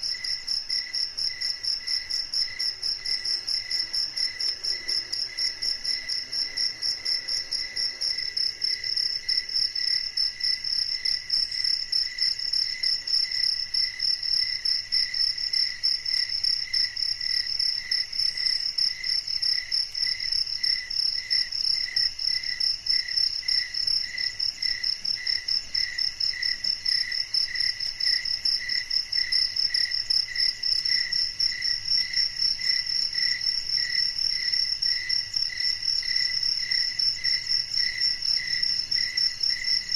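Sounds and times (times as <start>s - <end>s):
lower pulsing insect chirp: 0.0s - 39.9s.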